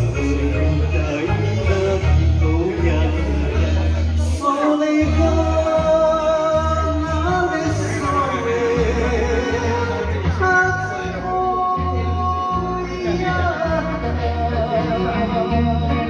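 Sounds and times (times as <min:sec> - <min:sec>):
karaoke backing track: 0:00.0 - 0:16.0
man singing into a microphone: 0:00.0 - 0:16.0.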